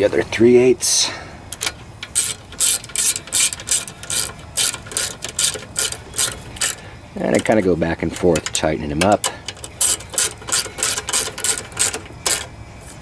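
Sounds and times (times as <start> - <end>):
ratchet wrench clicking: 1.5 - 12.5.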